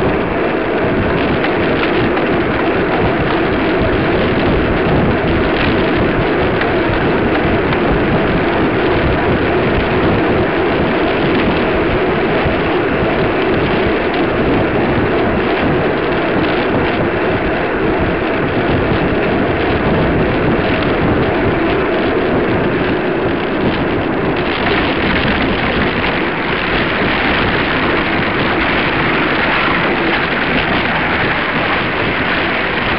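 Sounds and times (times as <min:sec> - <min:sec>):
wind rushing on microphone: 0:00.0 - 0:32.9.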